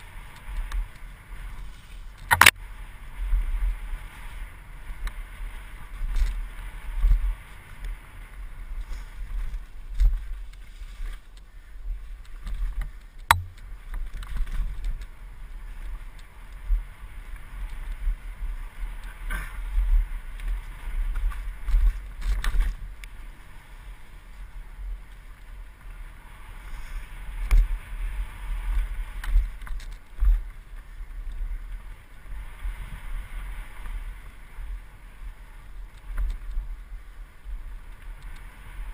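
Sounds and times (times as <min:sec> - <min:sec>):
wind buffeting camera: 0:00.0 - 0:38.9.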